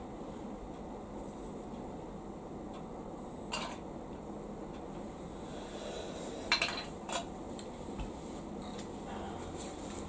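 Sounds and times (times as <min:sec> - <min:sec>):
low room hiss: 0:00.0 - 0:10.0.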